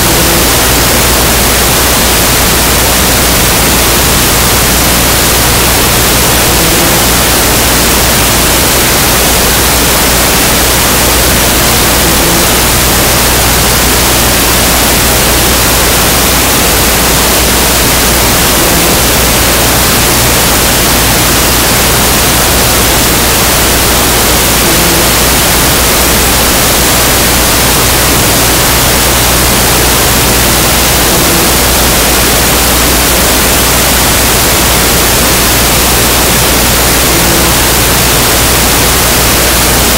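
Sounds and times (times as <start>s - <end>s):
low hum: 0.0s - 39.1s
loud static hiss: 0.0s - 39.9s.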